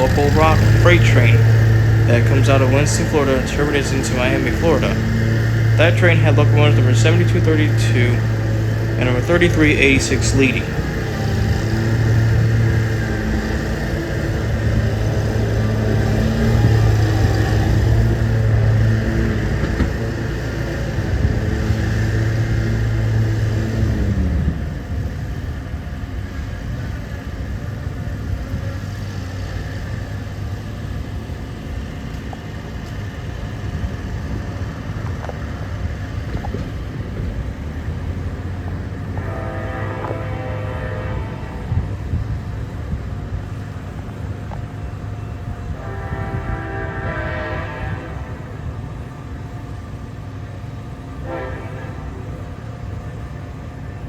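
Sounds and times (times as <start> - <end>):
locomotive diesel engine humming: 0.0 - 54.0.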